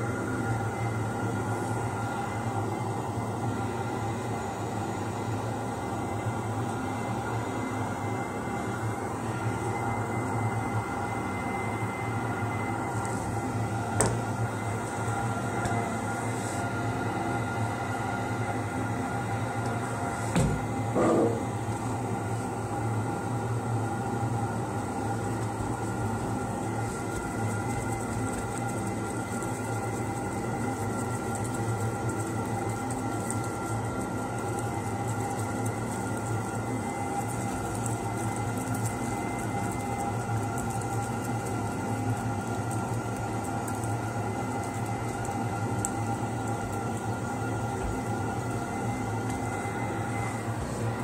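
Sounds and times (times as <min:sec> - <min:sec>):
motor humming with thin whine: 0:00.0 - 0:51.0.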